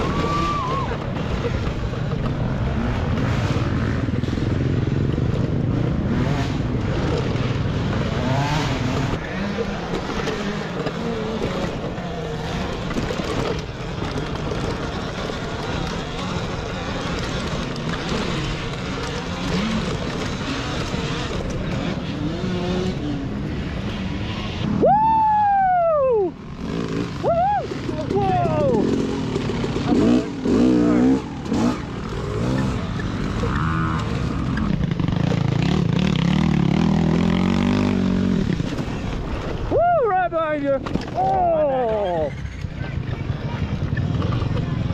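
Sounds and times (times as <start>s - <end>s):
off-road riding rumble and rattle: 0.0s - 44.9s.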